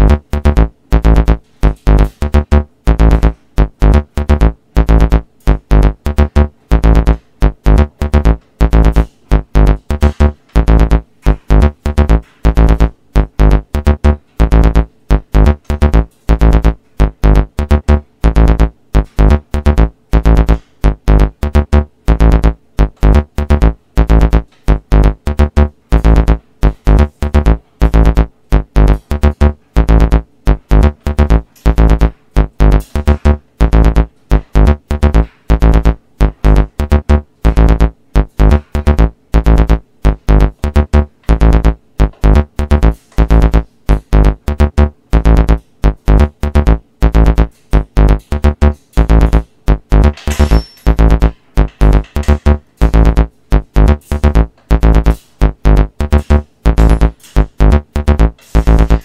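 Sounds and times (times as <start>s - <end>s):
electronic keyboard music heavy bass: 0.0s - 59.0s.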